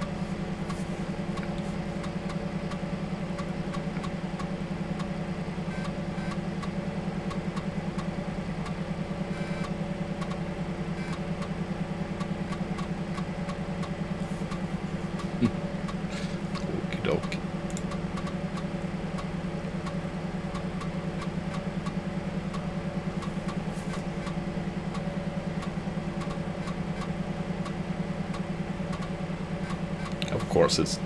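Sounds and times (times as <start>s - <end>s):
floppy drive hum: 0.0s - 31.0s.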